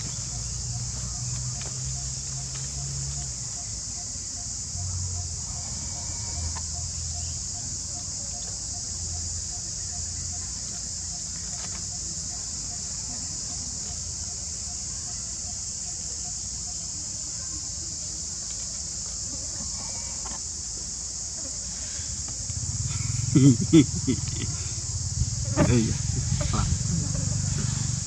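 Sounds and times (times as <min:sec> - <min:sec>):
insect chorus high-pitched shrill: 0:00.0 - 0:28.0.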